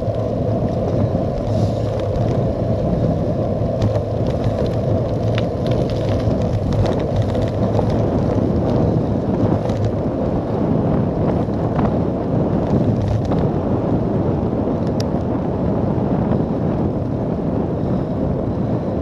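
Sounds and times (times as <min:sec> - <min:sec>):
tyre noise on tarmac: 0:00.0 - 0:19.0
wind buffeting microphone: 0:00.0 - 0:19.0.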